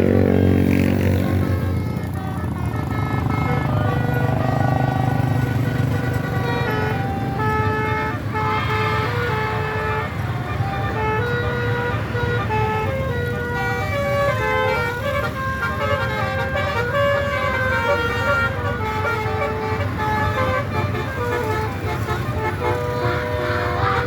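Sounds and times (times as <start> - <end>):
bus engine running: 0.0 - 24.0
bus melody horn playing a tune: 0.0 - 24.0.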